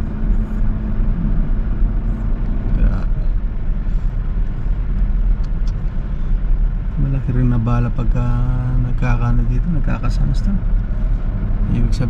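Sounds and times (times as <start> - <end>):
car cabin rumble: 0.0 - 12.0
low hum: 0.0 - 12.0.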